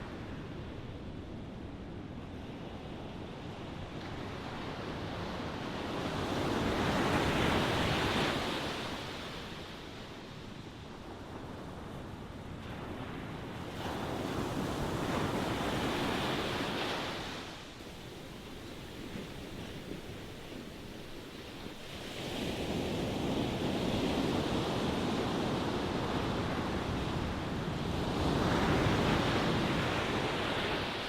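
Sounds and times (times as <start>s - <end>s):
ocean waves breaking on shore: 1.8s - 31.0s.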